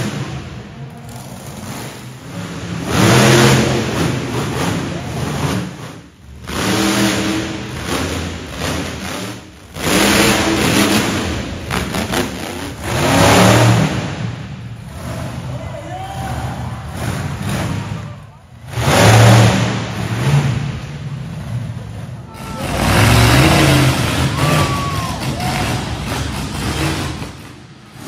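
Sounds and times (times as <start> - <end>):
monster truck engines revving: 0.0 - 28.0.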